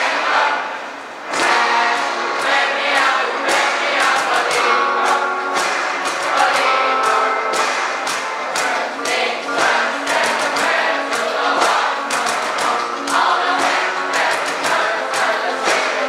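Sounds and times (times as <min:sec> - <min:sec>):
acoustic guitar: 0:00.0 - 0:16.0
children's choir singing: 0:00.0 - 0:16.0
cajon beat: 0:01.2 - 0:16.0.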